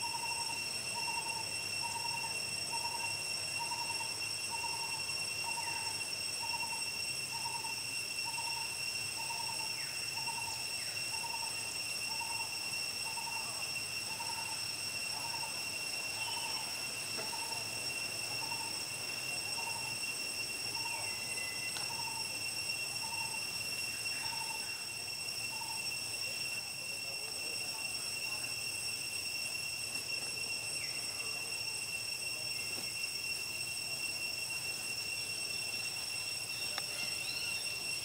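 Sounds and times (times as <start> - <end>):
insect drone: 0.0 - 38.0.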